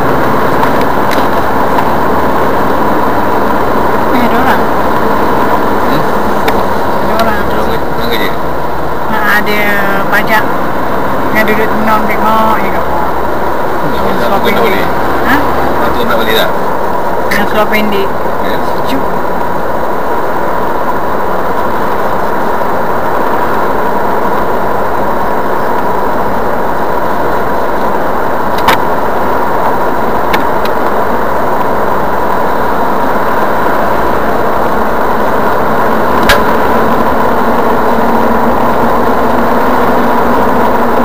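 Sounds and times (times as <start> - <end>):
car engine and tyre noise: 0.0 - 41.0
thin steady whine: 0.0 - 41.0.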